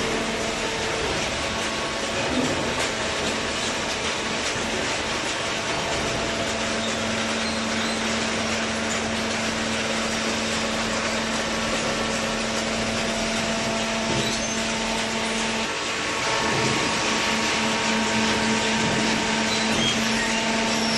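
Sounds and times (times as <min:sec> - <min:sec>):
cardboard baler running: 0:00.0 - 0:20.9.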